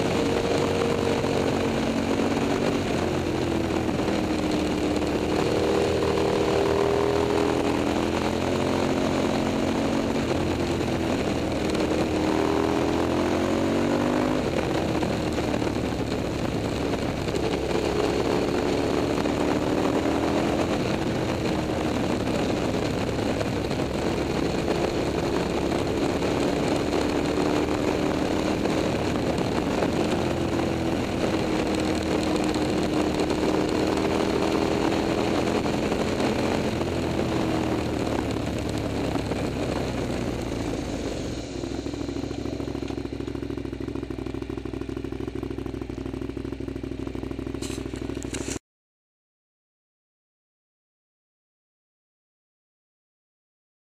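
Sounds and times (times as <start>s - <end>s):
motorcycle engine revving: 0.0s - 48.6s.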